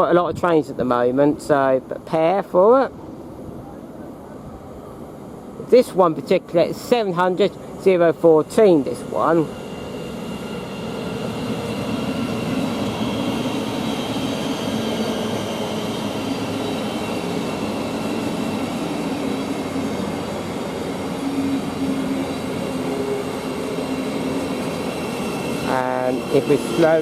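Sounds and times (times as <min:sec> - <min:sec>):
train running on rails: 0:00.0 - 0:27.0.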